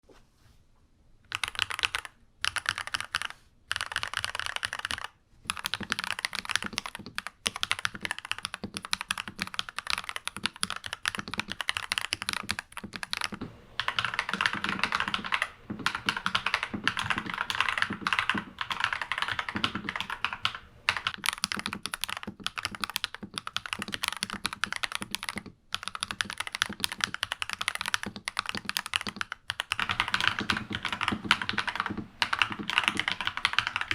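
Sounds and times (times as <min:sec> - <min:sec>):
mechanical keyboard typing: 0:01.3 - 0:33.9.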